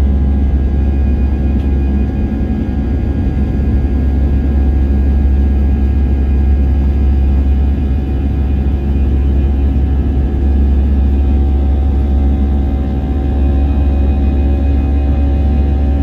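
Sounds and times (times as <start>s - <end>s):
aircraft engine rumble: 0.0s - 16.0s.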